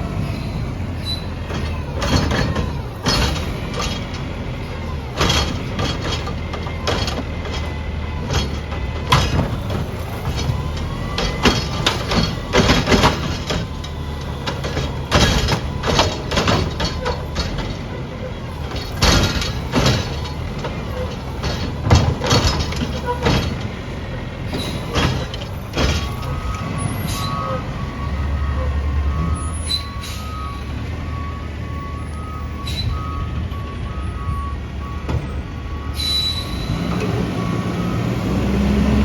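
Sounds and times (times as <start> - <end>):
garbage truck engine running: 0.0 - 39.0
recycling clanking and banging: 0.0 - 39.0.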